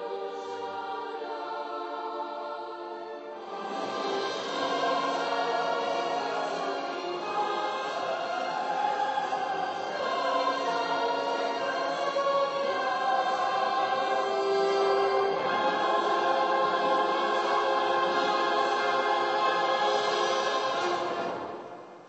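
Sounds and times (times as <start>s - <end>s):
choir singing held notes: 0.0s - 21.9s.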